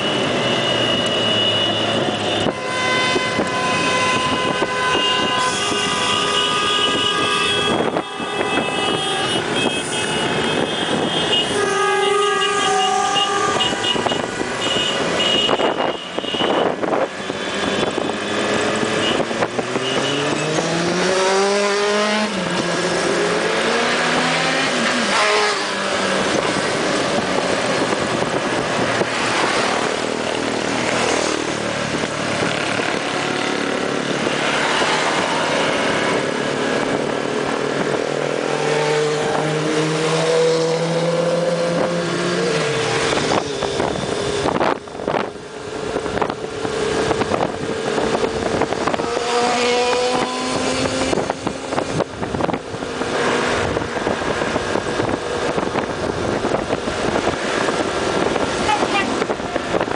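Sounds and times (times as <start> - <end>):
wind noise: 1.9 - 11.8, 13.2 - 21.5, 22.3 - 59.9.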